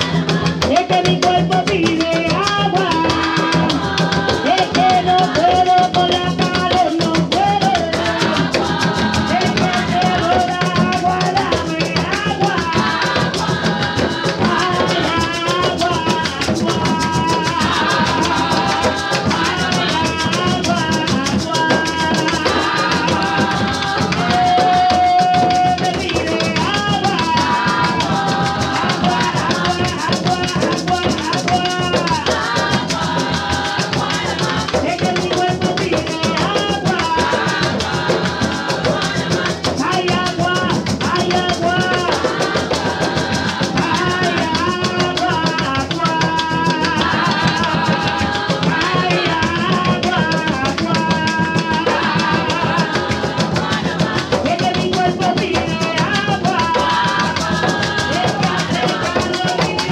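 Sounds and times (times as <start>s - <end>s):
hand drums playing rhythm: 0.0s - 59.9s
maraca shaking: 0.0s - 59.9s
people singing: 0.0s - 59.9s.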